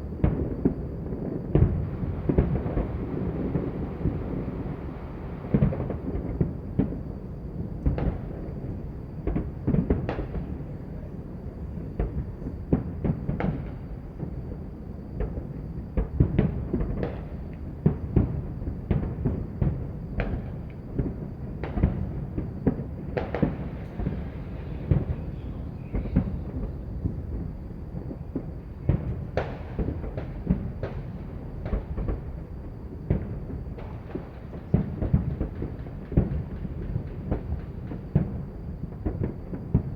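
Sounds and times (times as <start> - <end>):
continuous low rumble: 0.0 - 39.9
fireworks crackling and banging: 0.2 - 7.1, 7.9 - 10.7, 12.0 - 14.6, 15.2 - 39.9.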